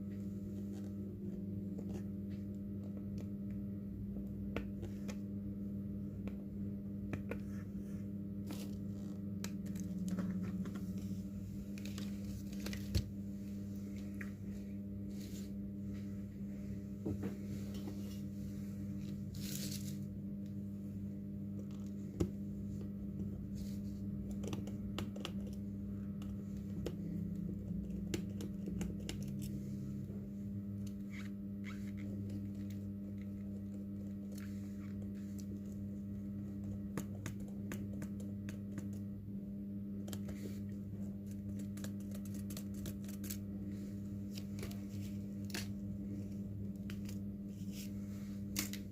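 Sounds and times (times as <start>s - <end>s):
steady electrical hum: 0.0s - 48.9s.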